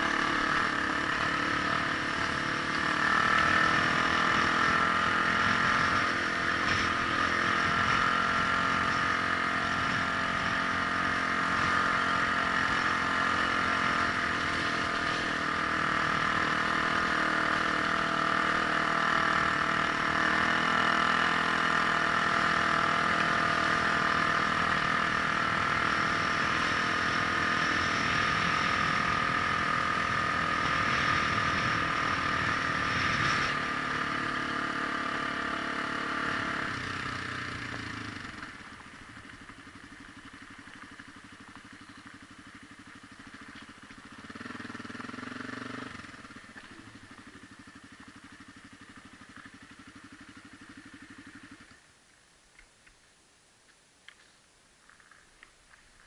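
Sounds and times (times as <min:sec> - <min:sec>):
vehicle engine running: 0:00.0 - 0:53.2
wind and road rumble: 0:00.0 - 0:56.0.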